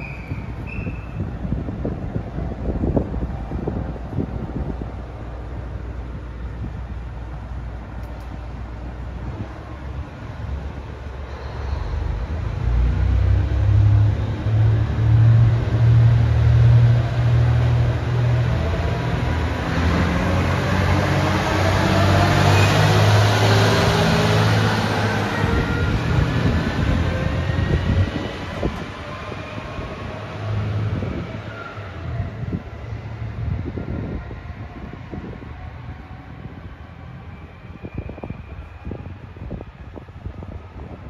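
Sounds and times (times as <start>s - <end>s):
diesel railcar engine droning: 0.0s - 41.0s.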